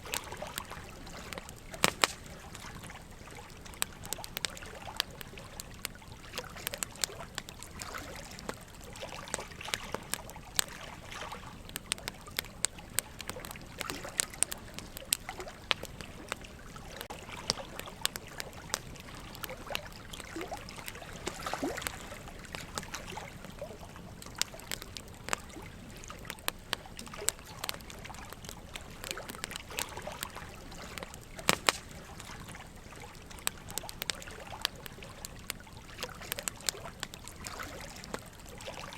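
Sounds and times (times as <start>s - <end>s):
running water trickling: 0.0s - 38.9s
wood fire crackling and popping: 0.0s - 38.9s.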